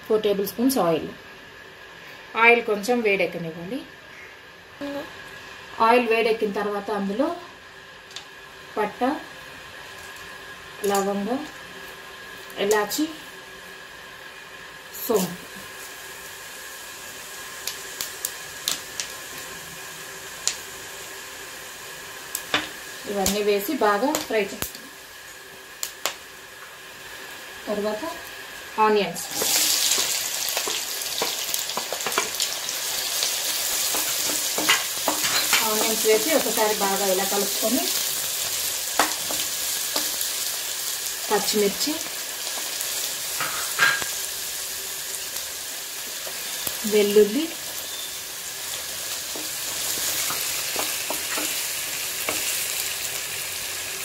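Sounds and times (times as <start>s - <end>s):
spices sizzling in hot oil: 4.8s - 54.0s.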